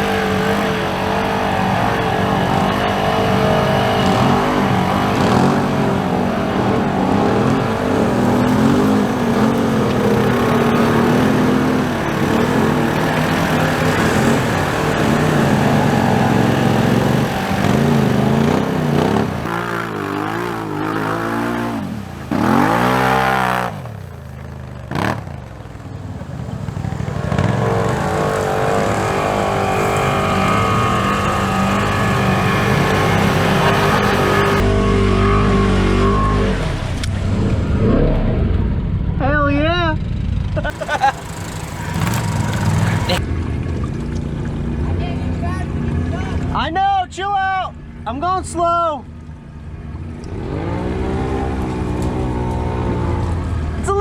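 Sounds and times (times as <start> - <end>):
utv engine revving: 0.0 - 46.8, 47.4 - 54.0.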